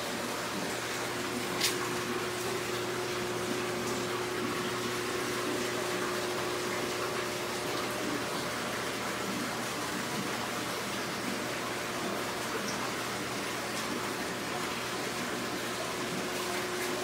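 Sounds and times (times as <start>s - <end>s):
low pump hum: 0.0s - 17.0s.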